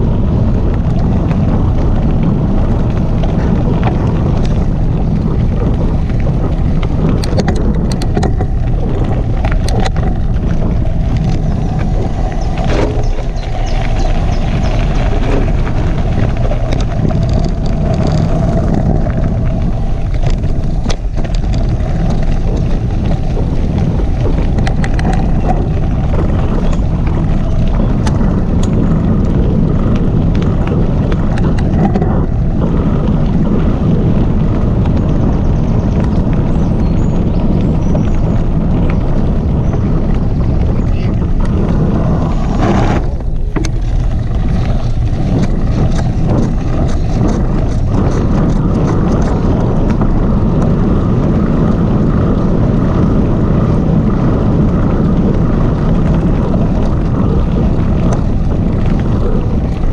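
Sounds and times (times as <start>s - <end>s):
bike clicking and rattling: 0.0s - 59.9s
tyre rumble on gravel: 0.0s - 59.9s
wind on microphone: 0.0s - 59.9s.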